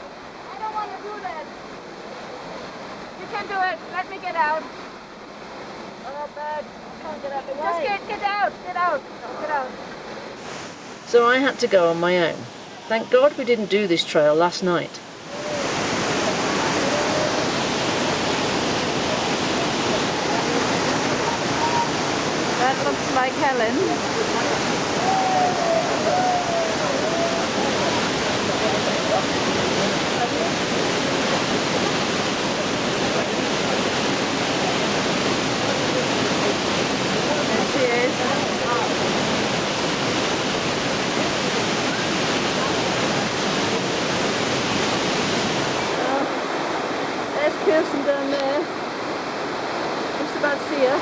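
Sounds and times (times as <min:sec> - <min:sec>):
waterfall roaring: 0:00.0 - 0:51.0.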